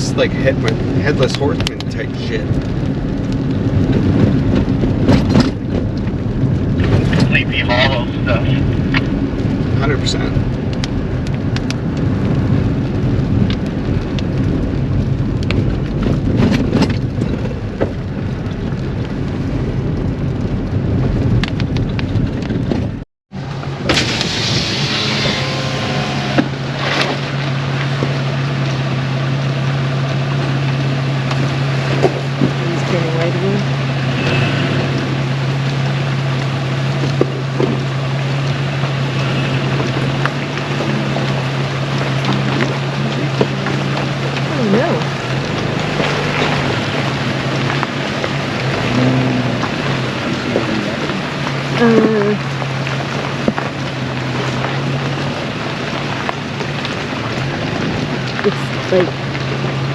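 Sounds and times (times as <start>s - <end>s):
raindrops ticking: 0.0s - 23.8s, 26.5s - 59.9s
engine and road noise: 0.0s - 59.9s
rain on a vehicle: 0.0s - 59.9s.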